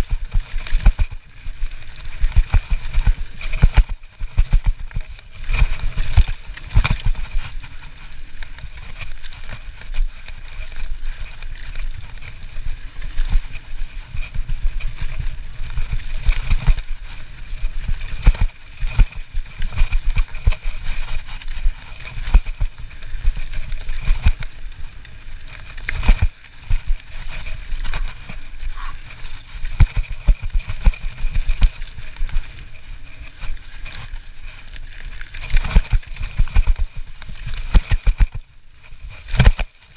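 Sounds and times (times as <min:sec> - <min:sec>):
bike knocking and rattling: 0:00.0 - 0:39.9
bike tyres rumbling on dirt: 0:00.0 - 0:39.9.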